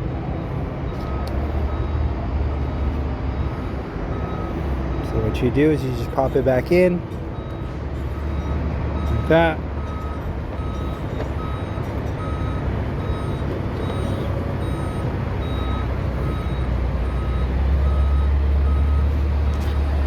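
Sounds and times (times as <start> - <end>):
low engine rumble: 0.0 - 20.0
reversing alarm beeping: 0.1 - 20.0.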